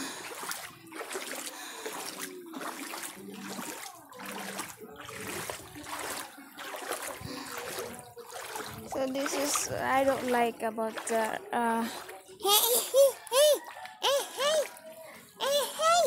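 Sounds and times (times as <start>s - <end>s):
wading through water: 0.0s - 16.0s.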